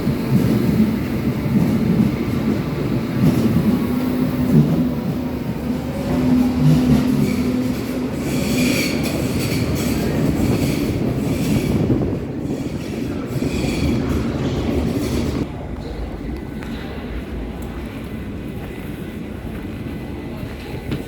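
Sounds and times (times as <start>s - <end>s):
metro train rail rumble: 0.0s - 21.0s.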